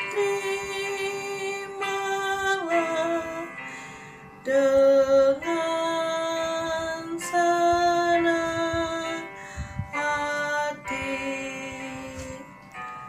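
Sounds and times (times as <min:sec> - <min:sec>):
woman singing a hymn: 0:00.0 - 0:12.8.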